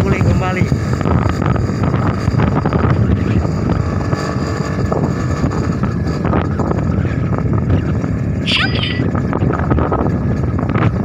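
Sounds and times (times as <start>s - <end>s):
vehicle engine noise: 0.0s - 11.0s
wind buffeting microphone: 0.0s - 11.0s.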